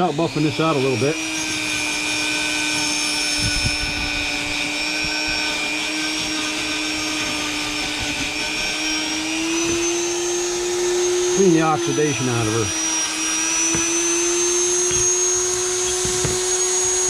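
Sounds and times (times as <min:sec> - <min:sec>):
electric buffing wheel running: 0:00.0 - 0:17.0.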